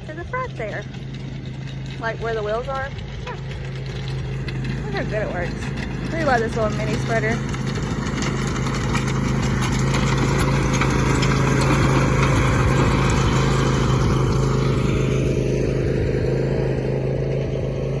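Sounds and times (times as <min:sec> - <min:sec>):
rapid clatter: 0:00.0 - 0:16.4
riding lawn mower engine running: 0:00.0 - 0:18.0.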